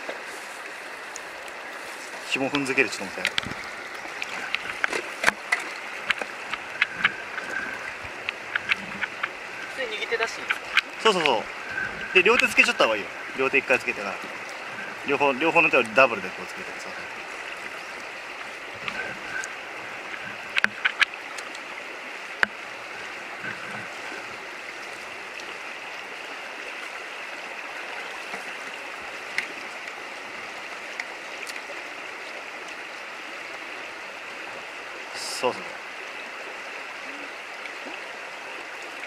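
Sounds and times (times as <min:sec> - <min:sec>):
river rushing over rocks: 0:00.0 - 0:39.0.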